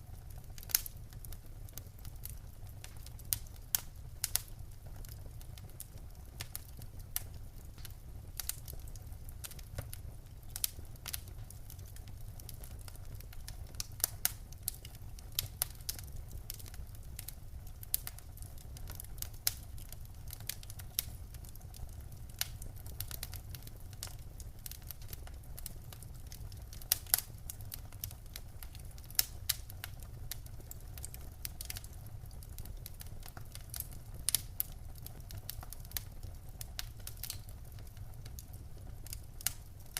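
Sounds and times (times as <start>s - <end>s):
fire low rumble: 0.0s - 39.9s
fire popping and snapping: 0.0s - 39.9s.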